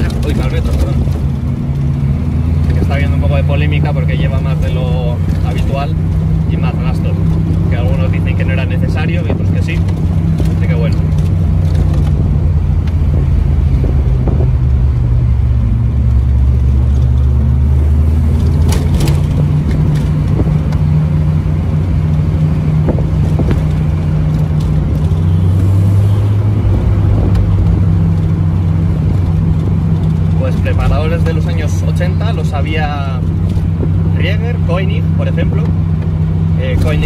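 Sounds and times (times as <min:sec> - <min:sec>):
car engine drone from inside cabin: 0:00.0 - 0:37.0
road noise: 0:00.0 - 0:37.0.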